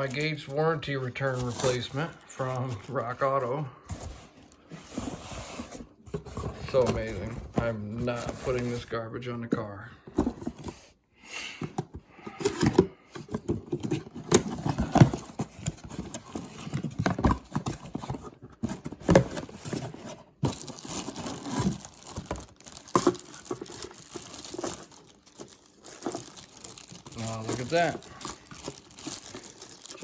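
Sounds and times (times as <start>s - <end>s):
packaging rustling and tearing: 0.0s - 8.9s, 12.1s - 30.0s.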